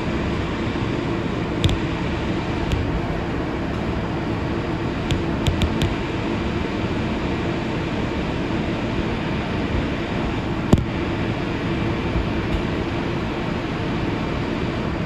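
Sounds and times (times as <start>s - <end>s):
faint hum: 0.0s - 15.0s
subway train wheels rumbling on rail: 0.0s - 15.0s.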